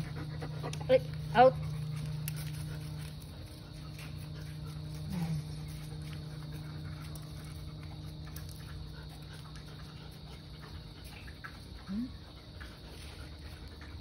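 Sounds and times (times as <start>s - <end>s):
dogs panting: 0.0s - 14.0s
steady low hum: 0.0s - 14.0s.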